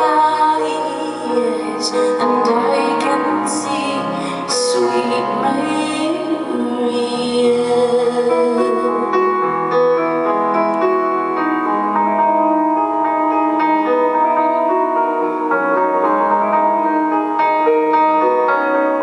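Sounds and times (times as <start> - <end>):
piano chords and melody: 0.0 - 19.0.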